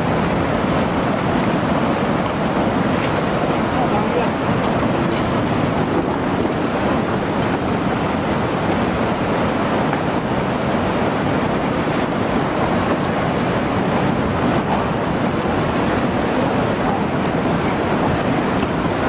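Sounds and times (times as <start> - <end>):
rushing floodwater: 0.0 - 19.0.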